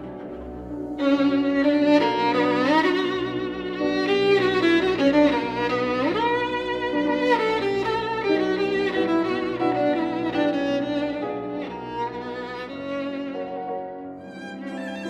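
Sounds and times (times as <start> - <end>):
bowed violin melody: 0.0 - 15.0
piano accompaniment: 0.0 - 15.0.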